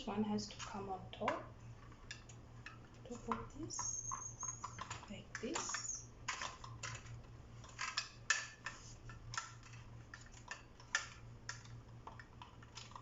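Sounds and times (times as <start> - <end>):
stand parts clicking and knocking: 0.5 - 13.0.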